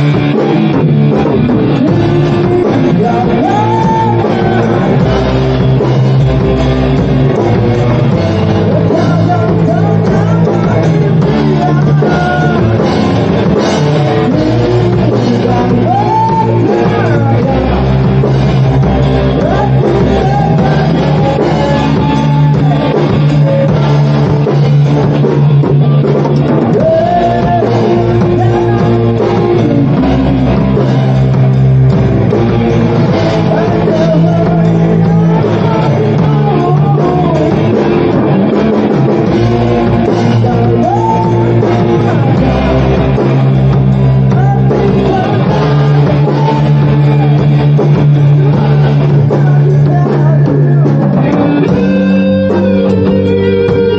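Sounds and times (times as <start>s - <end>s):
rock song with singing: 0.0s - 53.9s.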